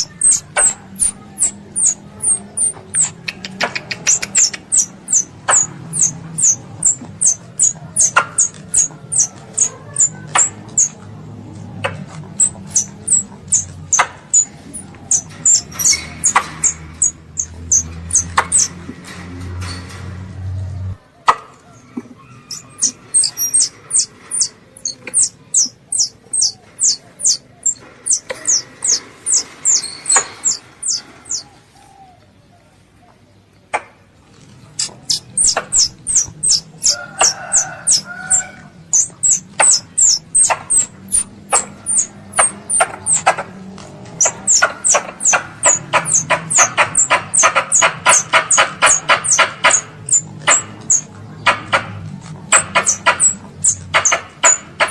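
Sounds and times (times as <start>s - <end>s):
squirrel chipping calls: 0.0s - 18.9s, 21.2s - 31.6s, 34.7s - 54.9s.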